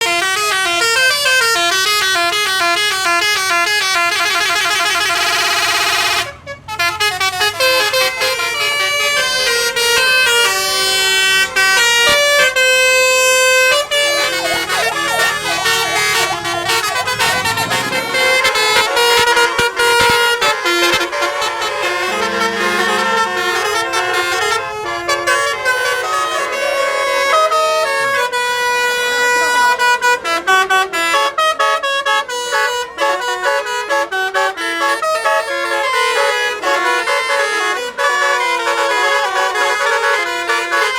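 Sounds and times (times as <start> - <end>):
bus horn playing a melody: 0.0 - 40.9.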